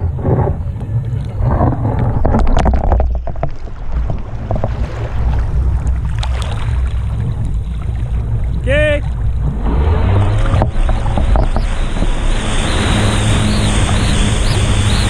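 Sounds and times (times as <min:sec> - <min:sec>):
boat engine rumble: 0:00.0 - 0:15.0
water churning and splashing: 0:00.0 - 0:15.0.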